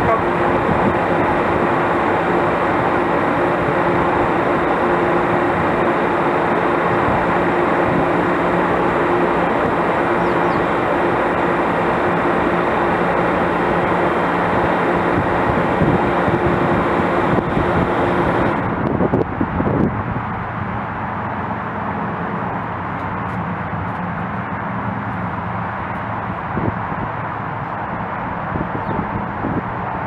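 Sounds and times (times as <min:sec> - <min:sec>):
low hum: 0:00.0 - 0:30.0
train rumbling past: 0:00.0 - 0:30.0.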